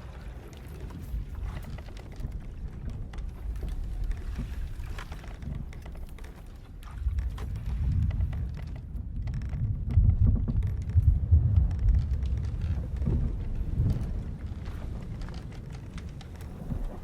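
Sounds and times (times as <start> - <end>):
wind and sea rumbling around hull: 0.0 - 17.0
faint ticks and knocks: 0.3 - 17.0.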